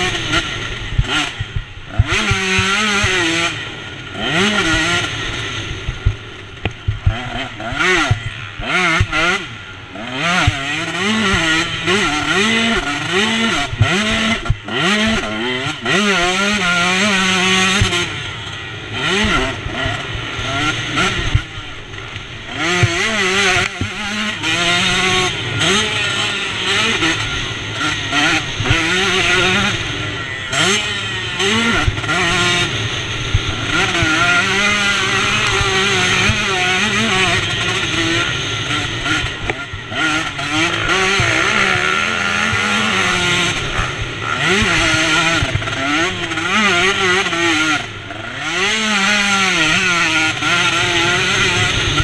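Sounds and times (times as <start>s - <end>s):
motocross engine revving: 0.0s - 52.0s.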